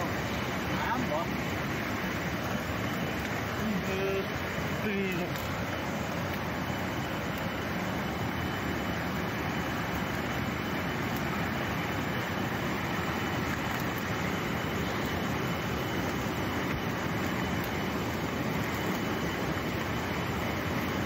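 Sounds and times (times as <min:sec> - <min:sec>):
water rushing through bamboo slats: 0:00.0 - 0:21.0.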